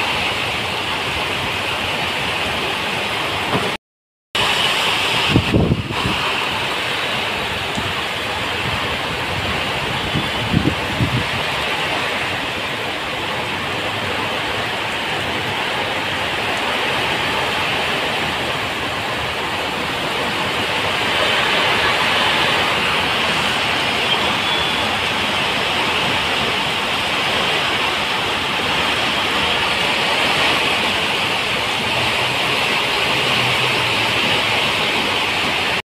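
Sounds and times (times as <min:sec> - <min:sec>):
heavy rain on a road: 0:00.0 - 0:03.8, 0:04.4 - 0:35.8.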